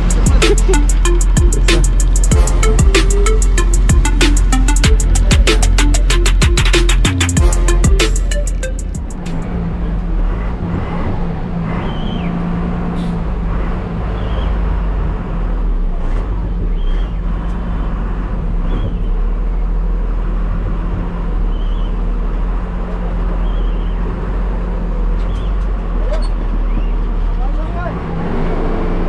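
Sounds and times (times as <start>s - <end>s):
bus engine droning: 0.0s - 29.0s.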